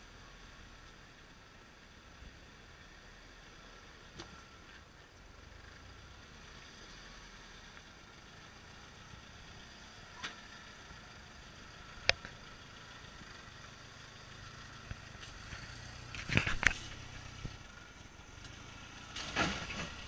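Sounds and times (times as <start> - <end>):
pickup engine running at low revs: 0.0 - 20.0.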